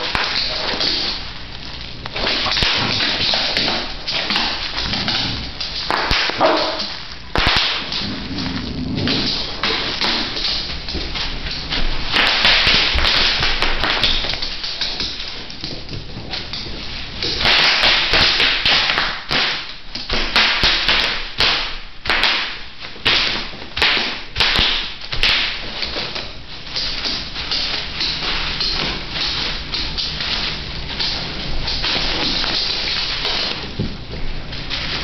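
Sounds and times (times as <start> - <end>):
bubble wrap crinkling and popping: 0.0 - 35.0.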